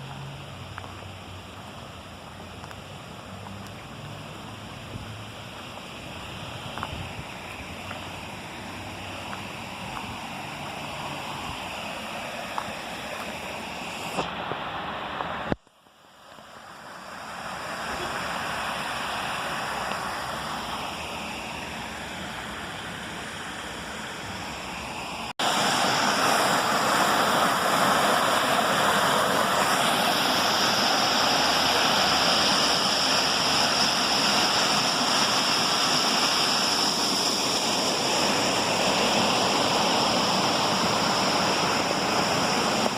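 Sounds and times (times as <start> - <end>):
cascading water rushing: 0.0 - 42.9.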